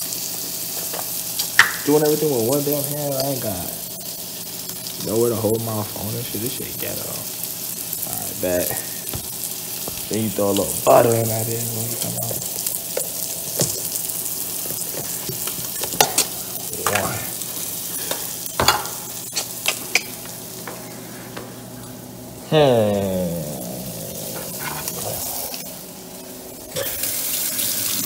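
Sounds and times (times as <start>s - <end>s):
steak sizzling in a frying pan: 0.0s - 20.7s, 23.3s - 28.0s.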